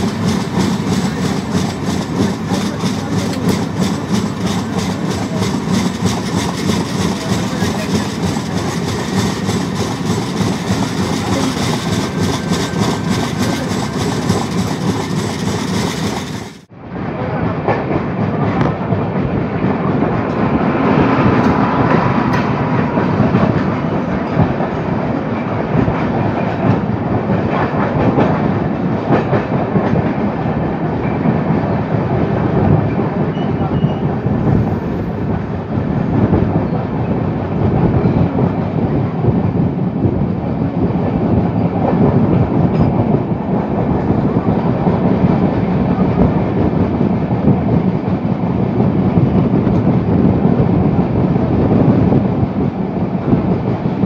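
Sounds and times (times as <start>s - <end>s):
train wheels clickety-clack: 0.0s - 16.7s, 17.3s - 54.0s
goods train rolling past: 0.0s - 54.0s.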